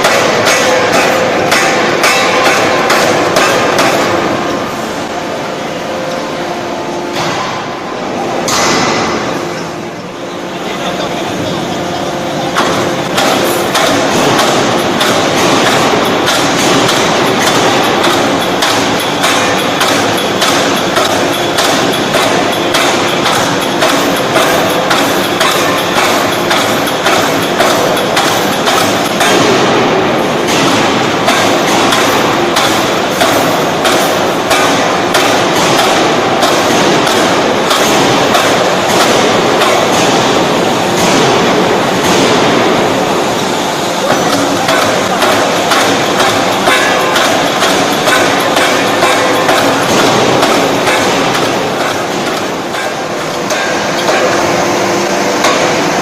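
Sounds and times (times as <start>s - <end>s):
forging hammer striking: 0.0s - 4.6s, 8.4s - 9.4s, 12.5s - 43.1s, 44.0s - 54.6s, 55.3s - 56.0s
machine noise: 0.0s - 56.0s.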